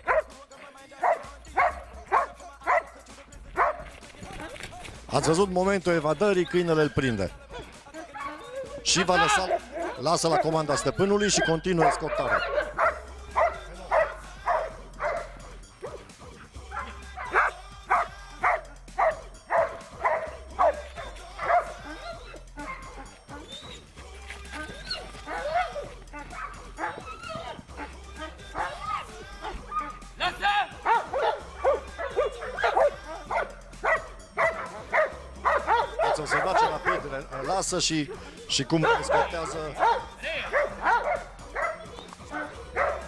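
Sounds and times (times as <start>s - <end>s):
dog barking: 0.0s - 4.5s, 7.5s - 23.8s, 24.6s - 30.0s, 30.8s - 37.5s, 38.6s - 43.0s.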